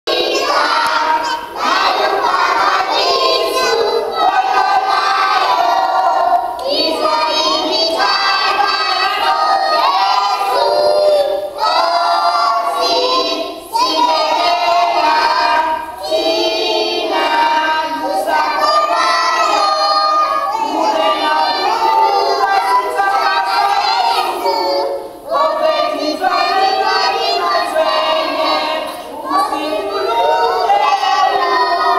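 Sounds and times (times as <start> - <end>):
children singing together: 0.0 - 31.9.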